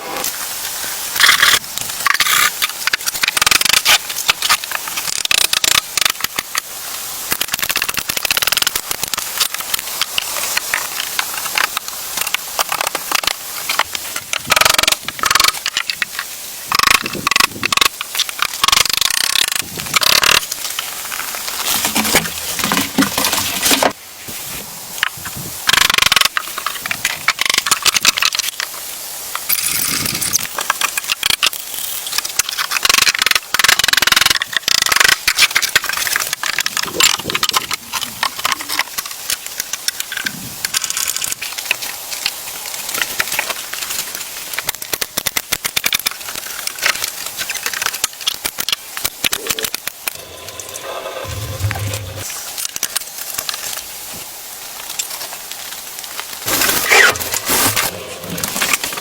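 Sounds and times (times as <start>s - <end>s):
wood and branches rustling and crackling: 0.0s - 59.0s.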